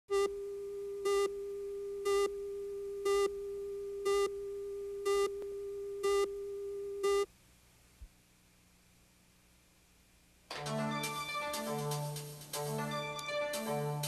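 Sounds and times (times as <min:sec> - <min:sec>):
faint tape hiss: 0:00.1 - 0:14.0.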